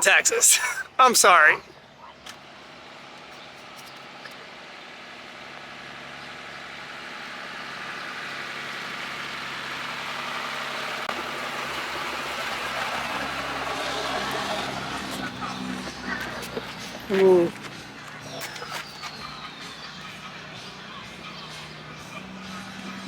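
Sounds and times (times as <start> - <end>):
vehicle engine running: 1.7 - 23.0.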